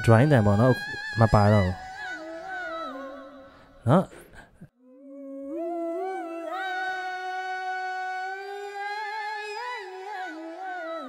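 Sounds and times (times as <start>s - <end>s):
pitch-shifted singing voice: 0.0s - 4.0s, 4.8s - 11.0s.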